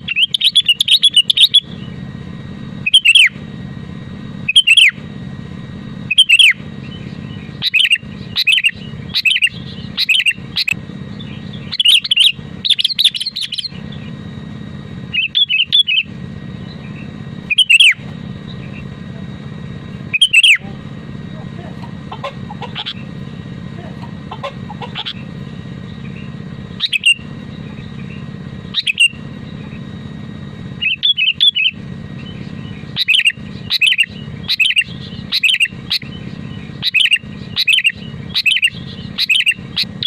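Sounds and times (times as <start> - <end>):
bulbul singing: 0.0 - 40.0
steady low hum: 0.0 - 40.0.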